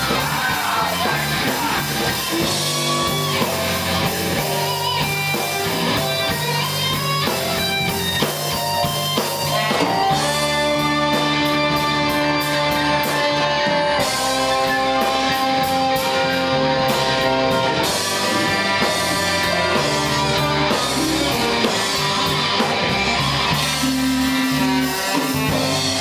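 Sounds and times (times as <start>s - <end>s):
bass guitar: 0.0s - 26.0s
drums with cymbal strokes: 0.0s - 26.0s
electric guitar holding long notes: 0.0s - 26.0s.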